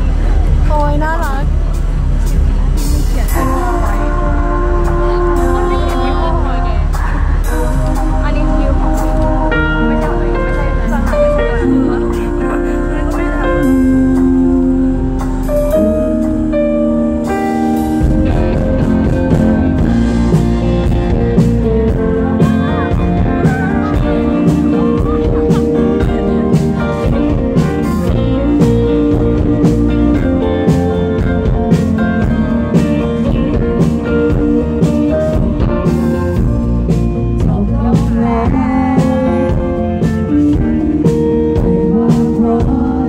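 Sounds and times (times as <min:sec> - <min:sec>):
acoustic-electric guitar: 0:00.0 - 0:43.0
drum kit beat: 0:00.0 - 0:43.0
electric bass: 0:00.0 - 0:43.0.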